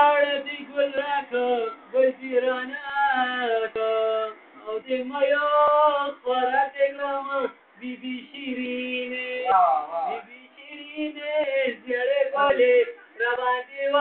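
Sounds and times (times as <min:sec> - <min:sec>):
man singing slow song: 0:00.0 - 0:14.0.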